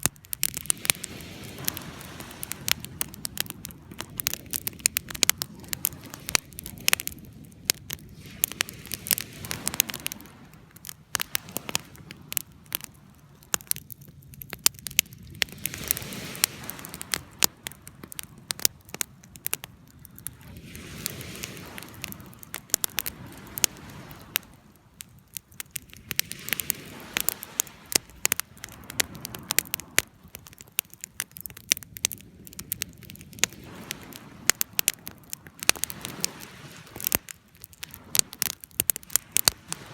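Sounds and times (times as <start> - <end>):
rush of flames: 0.0 - 39.9
wood fire crackling and popping: 0.0 - 39.9.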